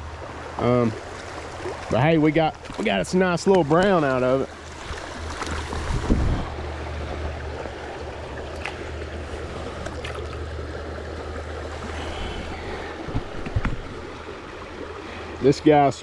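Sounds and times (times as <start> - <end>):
water rushing over rocks: 1.6 - 16.0.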